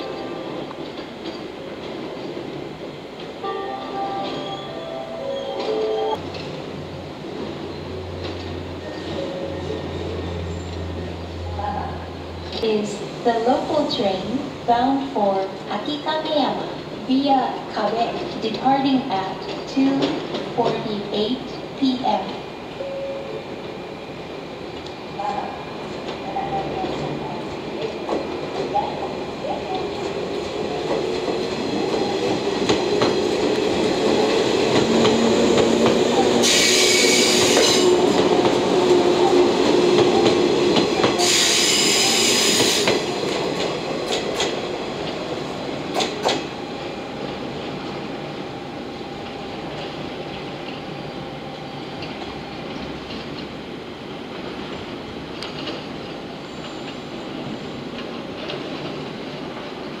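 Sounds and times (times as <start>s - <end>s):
train rumble: 0.0s - 60.0s.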